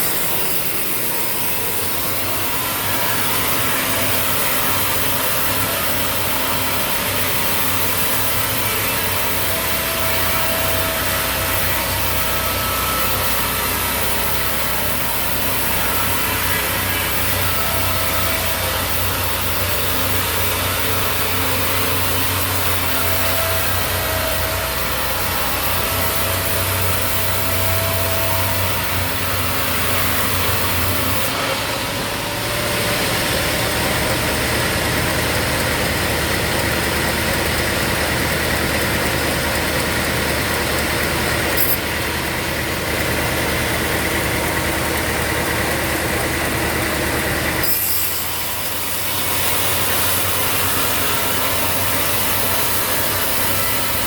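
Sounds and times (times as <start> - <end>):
engine hum: 0.0 - 54.0
saw cutting through wood: 0.0 - 54.0.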